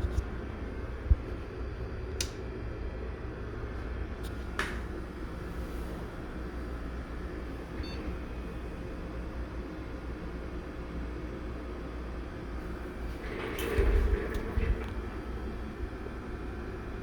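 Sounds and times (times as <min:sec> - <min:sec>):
machine humming with fan noise: 0:00.0 - 0:17.0.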